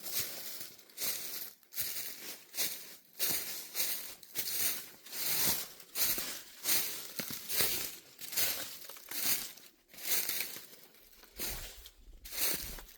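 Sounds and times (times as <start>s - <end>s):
footsteps crunching dry leaves: 0.0s - 12.9s.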